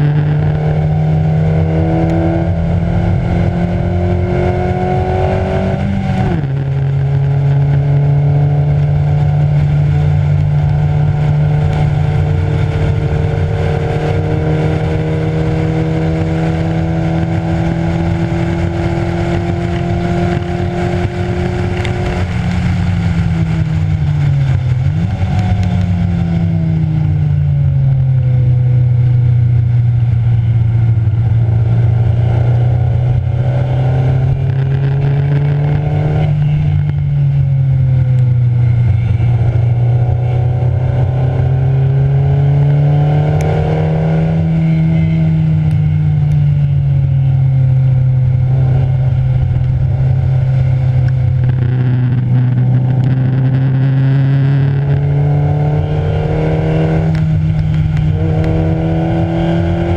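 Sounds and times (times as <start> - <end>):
race car engine revving: 0.0 - 26.2, 30.1 - 59.9.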